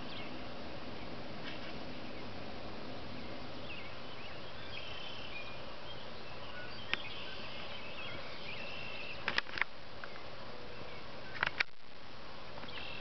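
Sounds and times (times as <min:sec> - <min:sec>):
small birds chirping: 0:00.0 - 0:11.9, 0:12.6 - 0:13.0
steady background hiss: 0:00.0 - 0:13.0.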